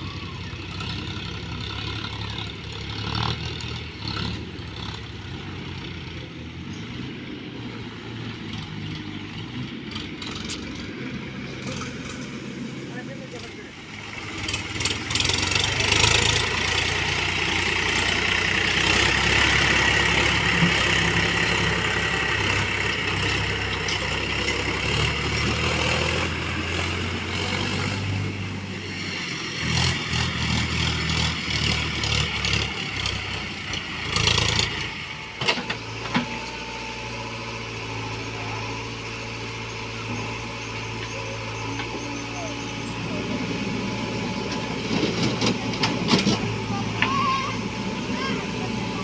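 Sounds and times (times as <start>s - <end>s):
heavy machinery diesel engine: 0.0s - 49.0s.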